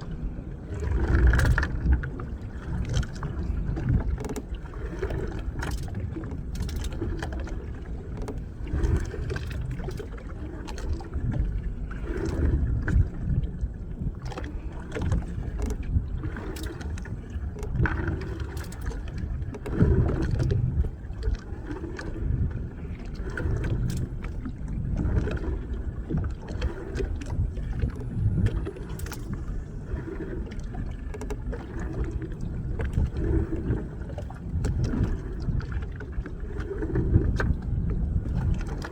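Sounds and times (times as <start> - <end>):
boat engine rumble: 0.0 - 38.9
water sloshing: 0.0 - 38.9.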